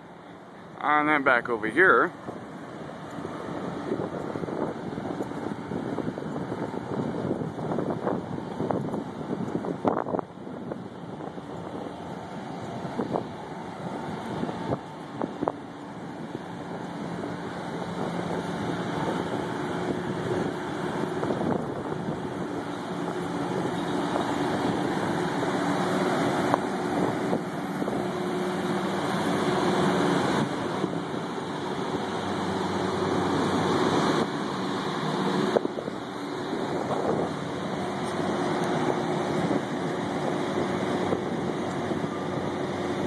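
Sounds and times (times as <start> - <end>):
ventilation fans humming: 0.0 - 43.0
wind on microphone: 2.2 - 43.0.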